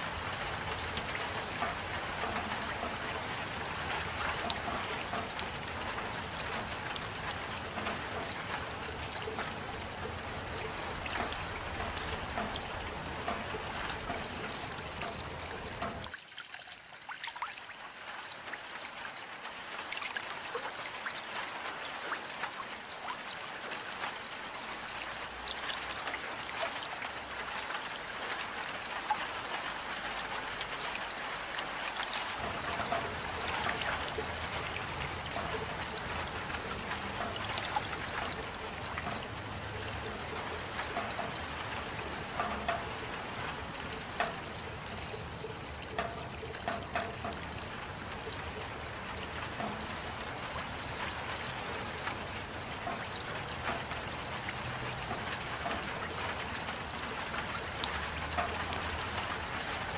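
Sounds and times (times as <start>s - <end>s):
rain drops pattering: 0.0s - 59.9s
trickling water: 0.0s - 59.9s.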